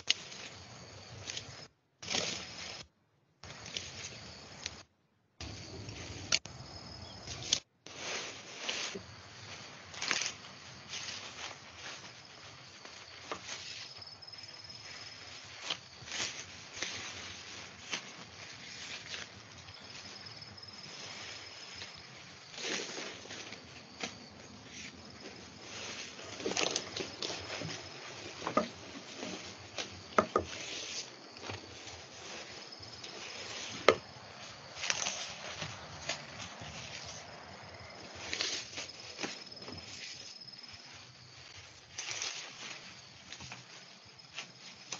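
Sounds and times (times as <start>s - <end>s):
leaves rustling and swishing: 0.0s - 2.8s, 5.4s - 44.9s.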